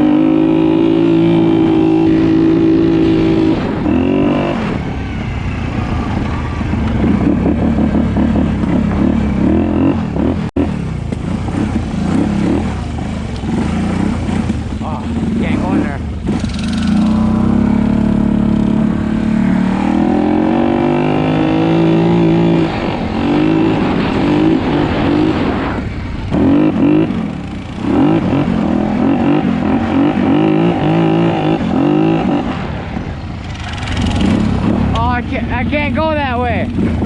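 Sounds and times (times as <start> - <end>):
mini bike engine revving: 0.0 - 32.8, 33.4 - 37.0.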